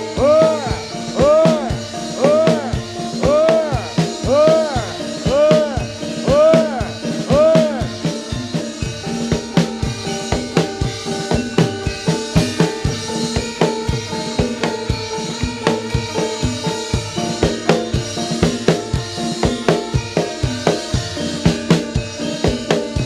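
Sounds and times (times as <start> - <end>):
gamelan metallophones ringing: 0.0 - 23.0
steady driving drum beat: 0.0 - 23.0.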